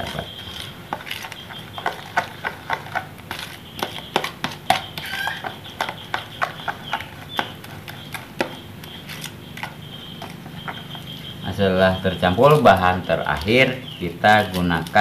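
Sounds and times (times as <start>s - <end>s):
spoon stirring thick mix: 0.0s - 15.0s.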